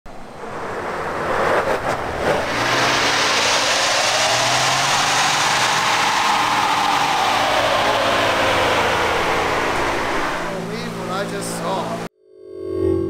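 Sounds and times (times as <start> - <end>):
car engine running: 0.1 - 12.1
rushing noise: 0.1 - 12.1.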